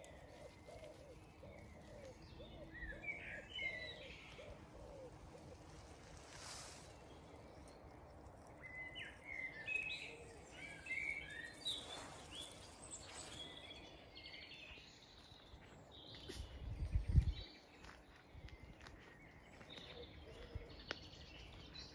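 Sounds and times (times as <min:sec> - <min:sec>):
small birds chirping and trilling: 0:00.0 - 0:21.9
steady outdoor hiss: 0:00.0 - 0:21.9.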